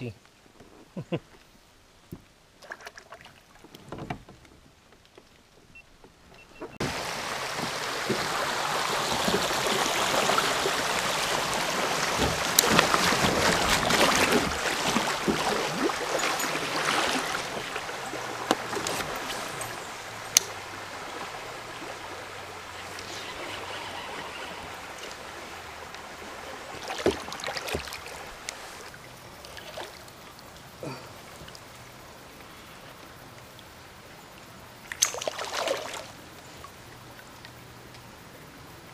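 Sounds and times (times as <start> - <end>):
river water rushing: 6.8 - 38.3.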